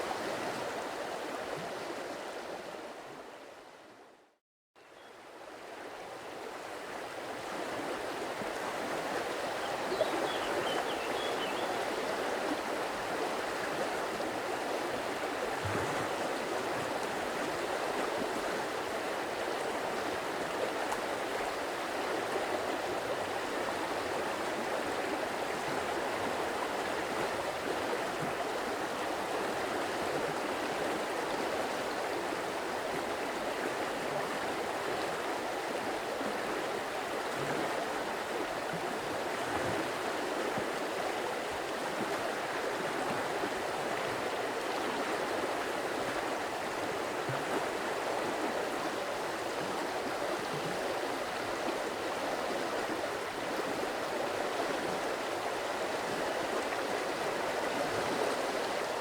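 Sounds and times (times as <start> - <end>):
stream water rushing: 5.2 - 59.0.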